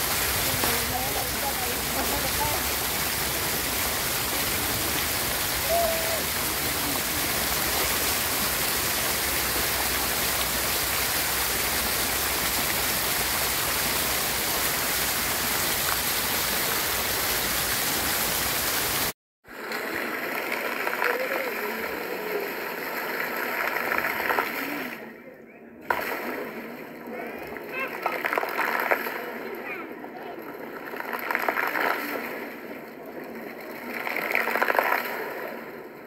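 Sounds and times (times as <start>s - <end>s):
fountain water splashing: 0.0s - 25.2s, 25.8s - 36.0s.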